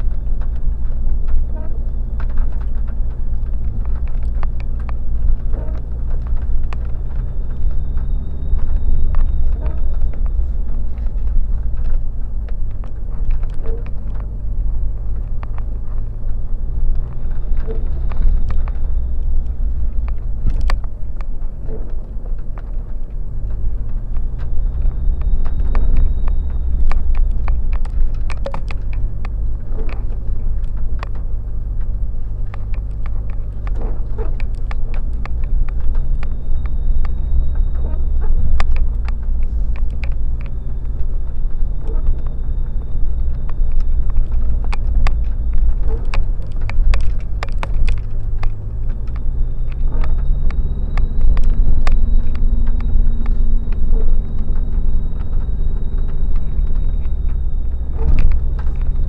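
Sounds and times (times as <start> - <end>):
car engine at low revs: 0.0 - 59.0
sharp clicks and knocks: 0.0 - 59.0.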